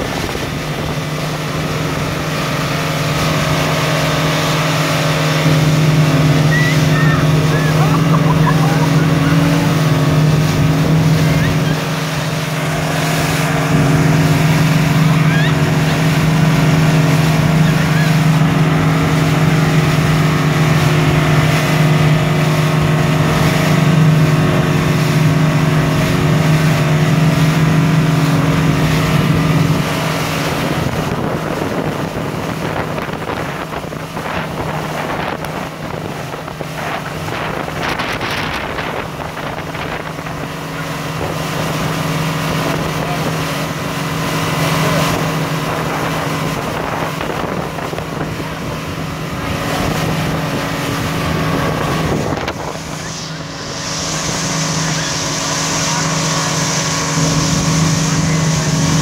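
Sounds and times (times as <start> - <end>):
wind on microphone: 0.0 - 26.5, 28.4 - 59.0
motorboat engine running: 0.0 - 59.0
rush of boat wake: 0.0 - 59.0.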